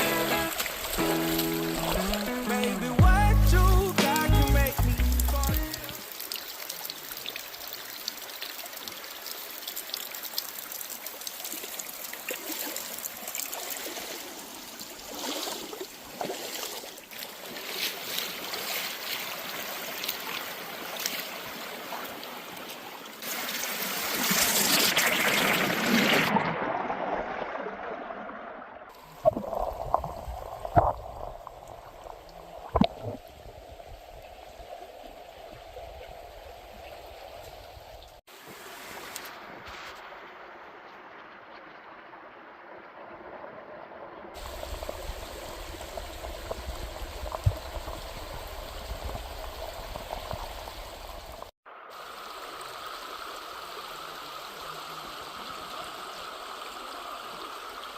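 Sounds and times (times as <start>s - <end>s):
stream trickling: 0.0s - 57.9s.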